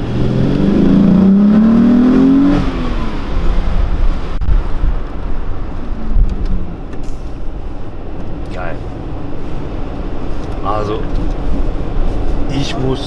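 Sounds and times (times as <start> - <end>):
car engine revving: 0.0 - 13.0
road noise: 0.0 - 13.0.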